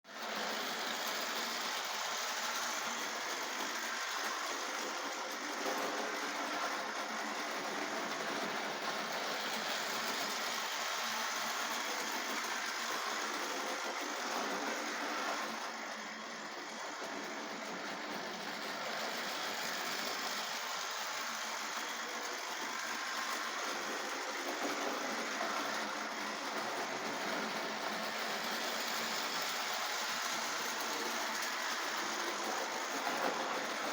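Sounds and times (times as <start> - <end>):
model train whirring and rattling: 0.1 - 33.9.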